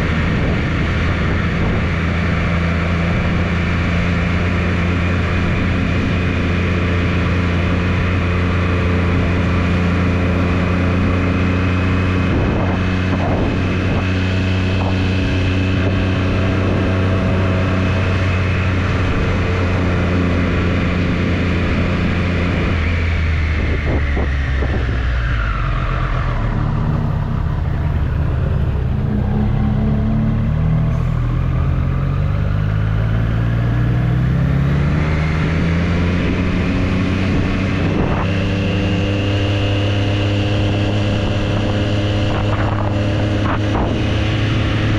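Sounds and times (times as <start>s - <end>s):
motorcycle engine running: 0.0s - 44.9s
wind noise: 0.0s - 44.9s.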